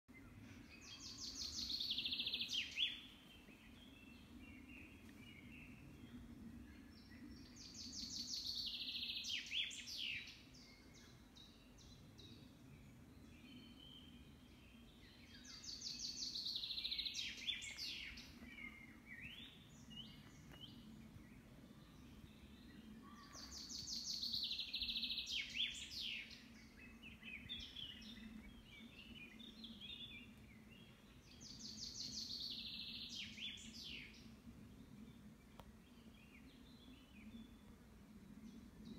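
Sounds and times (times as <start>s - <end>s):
faint low background noise: 0.1s - 38.9s
songbird song: 0.1s - 38.9s.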